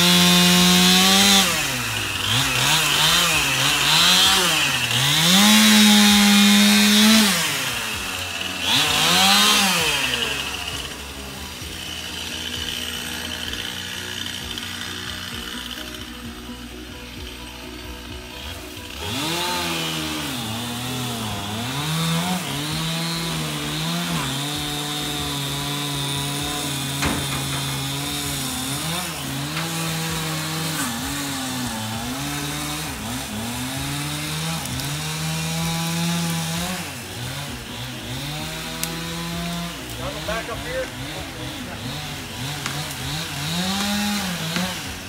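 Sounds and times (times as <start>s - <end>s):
chainsaw running at high revs: 0.0s - 45.0s.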